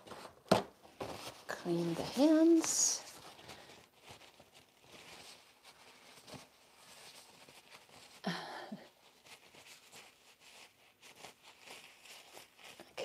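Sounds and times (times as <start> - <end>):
gloved hands rustling: 0.0 - 13.0.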